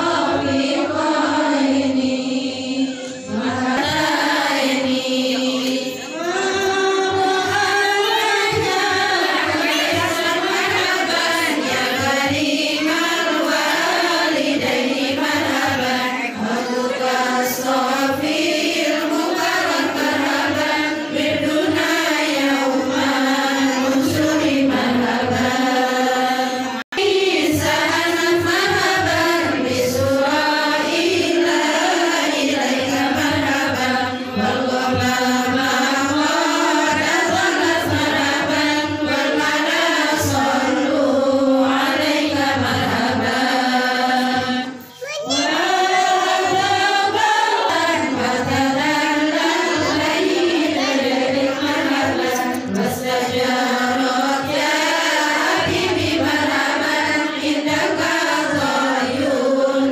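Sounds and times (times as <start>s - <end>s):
women and girls chanting in unison: 0.0s - 59.9s.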